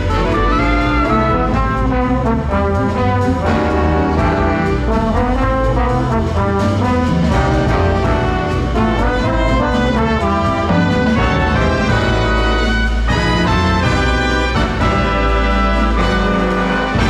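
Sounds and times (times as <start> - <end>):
big band playing: 0.0 - 17.0
brass section chords: 0.0 - 17.0.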